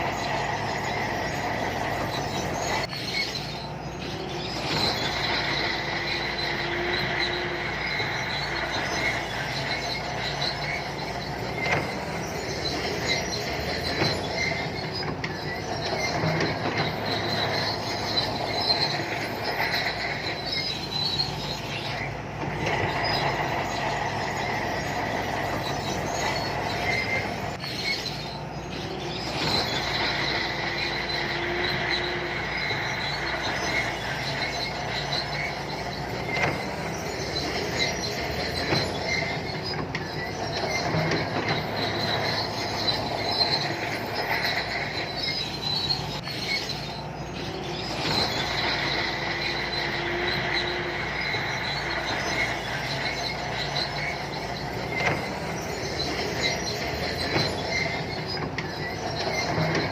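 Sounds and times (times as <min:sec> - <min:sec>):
bulldozer diesel engine running: 0:00.0 - 0:59.9
steel tracks squealing and clanking: 0:00.0 - 0:59.9.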